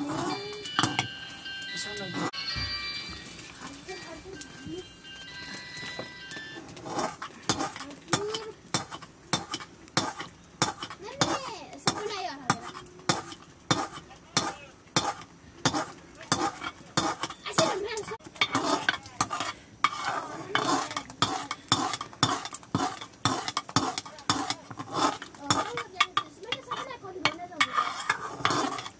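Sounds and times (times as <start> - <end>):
metal spoon scraping pot: 0.0 - 1.3, 1.9 - 2.4, 6.6 - 28.9.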